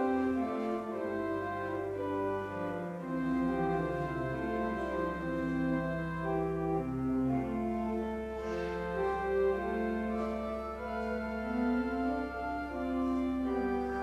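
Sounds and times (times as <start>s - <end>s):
organ playing slow chords: 0.0s - 14.0s.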